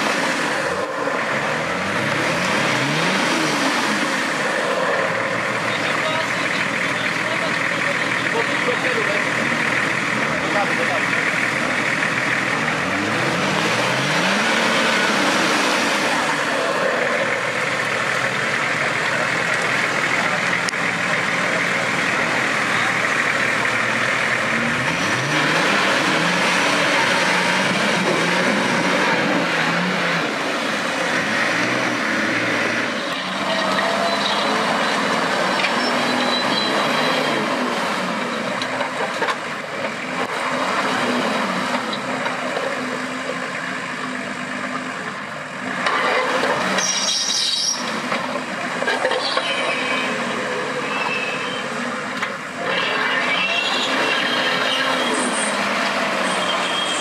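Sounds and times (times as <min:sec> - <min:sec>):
off-road engine under load: 0:00.0 - 0:57.0
tyres on rough terrain: 0:00.0 - 0:57.0.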